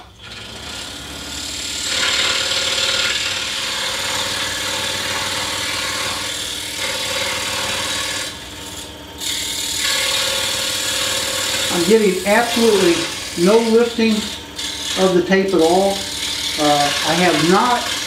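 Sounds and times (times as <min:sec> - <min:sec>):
scroll saw cutting wood: 0:00.0 - 0:18.0.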